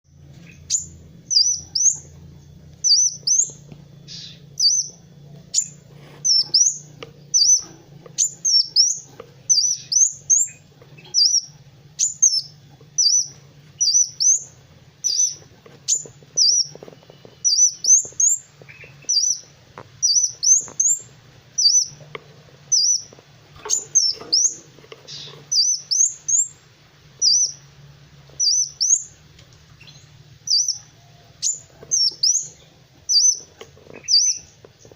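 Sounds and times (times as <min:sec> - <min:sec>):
faint low hum: 0:00.1 - 0:34.9
sunbird chirping: 0:00.1 - 0:34.9.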